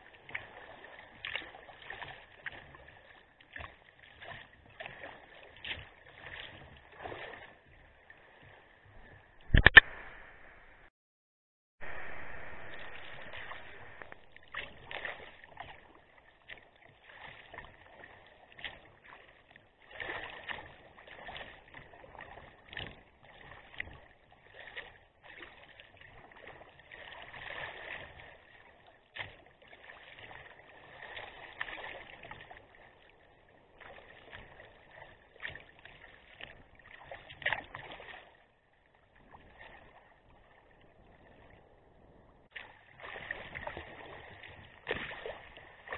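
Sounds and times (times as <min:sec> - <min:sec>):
paddle splashes: 0:00.0 - 0:10.4, 0:11.8 - 0:45.9
water sloshing against hull: 0:00.0 - 0:10.9, 0:11.8 - 0:45.9.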